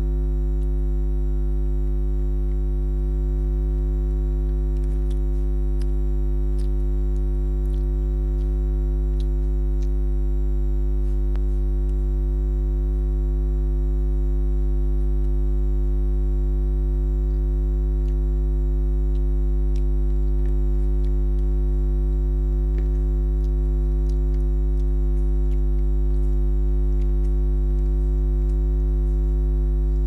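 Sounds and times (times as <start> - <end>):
loud electrical hum: 0.0 - 30.0.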